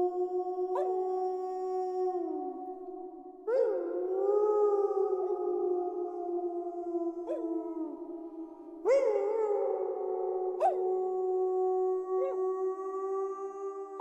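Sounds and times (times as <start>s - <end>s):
wolves howling: 0.0s - 14.0s.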